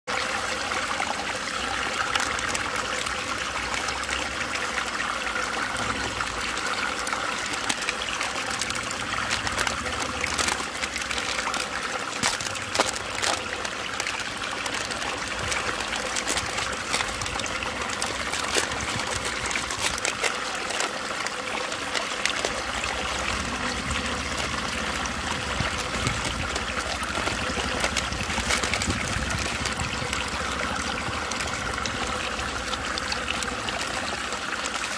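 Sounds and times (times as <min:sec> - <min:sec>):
water swirling in a vortex: 0:00.1 - 0:34.9
short clicks and crackles: 0:05.7 - 0:34.9.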